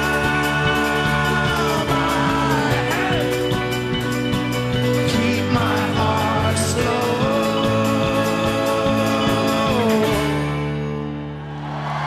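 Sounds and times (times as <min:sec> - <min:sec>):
lead and harmony vocals: 0:00.0 - 0:12.0
strummed acoustic strings: 0:00.0 - 0:12.0.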